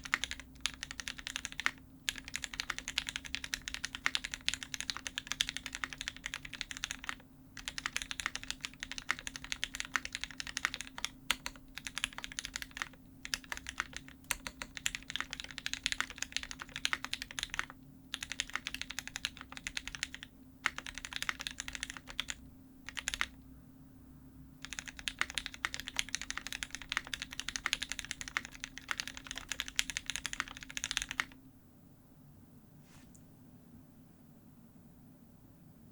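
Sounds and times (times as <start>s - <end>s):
mechanical keyboard keys clacking: 0.0s - 23.4s, 24.6s - 31.4s.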